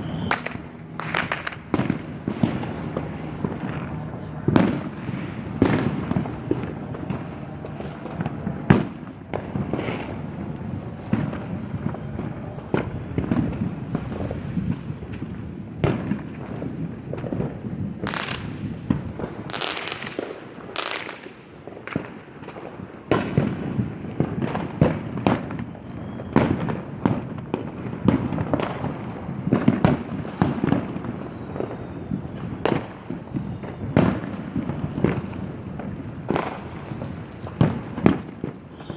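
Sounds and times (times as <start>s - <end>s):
crackling hissing fireworks bursts: 0.0s - 38.9s
distant fireworks booms: 0.0s - 38.9s
sharp fireworks bangs: 0.0s - 38.9s.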